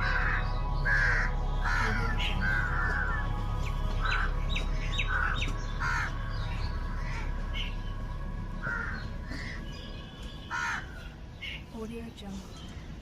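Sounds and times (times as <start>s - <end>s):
low hum: 0.0s - 11.3s
birds calling harshly: 0.0s - 13.0s.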